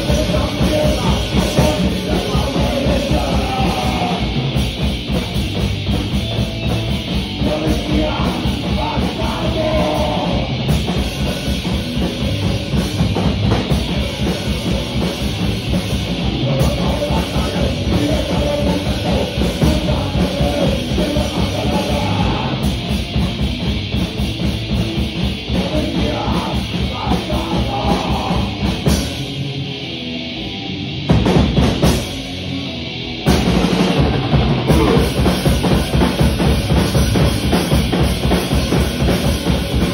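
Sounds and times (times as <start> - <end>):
fast driving drum kit: 0.0 - 39.9
live heavy rock band: 0.0 - 39.9.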